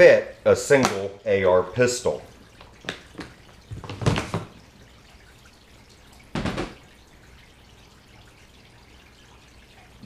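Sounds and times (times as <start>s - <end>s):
faint room hiss: 0.0s - 10.0s.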